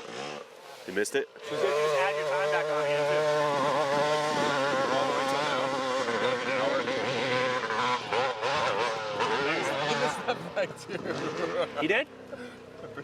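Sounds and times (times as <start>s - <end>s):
dirt bike engine revving: 0.0s - 12.3s.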